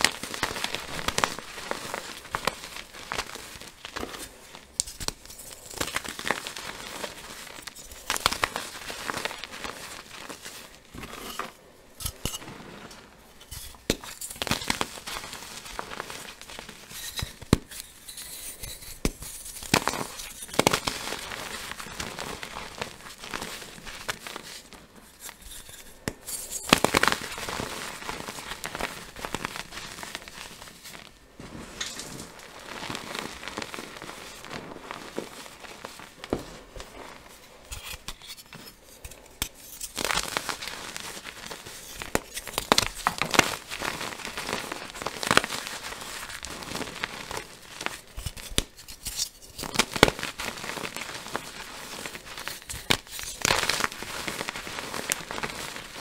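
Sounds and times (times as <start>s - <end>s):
chalk crunching and crackling: 0.0s - 56.0s.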